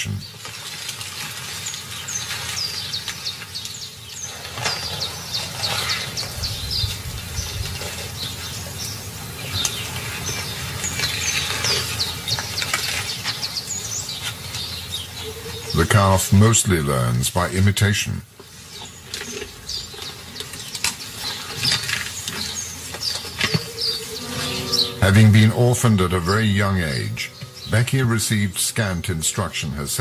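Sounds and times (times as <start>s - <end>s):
low background noise: 0.0s - 30.0s
birds chirping: 1.4s - 30.0s.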